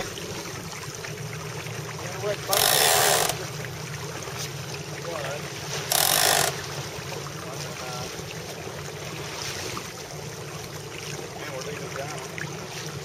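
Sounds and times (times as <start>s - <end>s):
water rushing along a hull: 0.0s - 13.0s.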